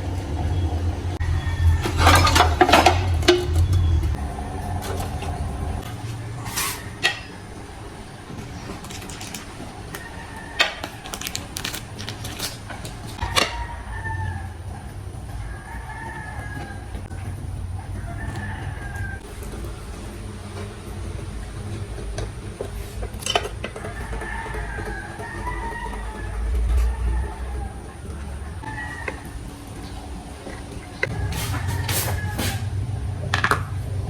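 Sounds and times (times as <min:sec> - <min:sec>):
rooster crowing: 0:00.0 - 0:19.4, 0:22.8 - 0:34.0
low steady hum: 0:00.0 - 0:34.0.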